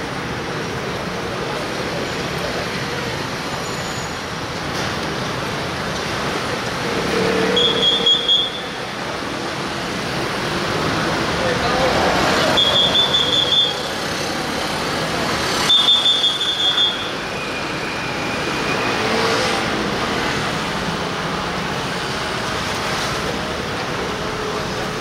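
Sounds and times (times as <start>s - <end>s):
street din: 0.0s - 25.0s.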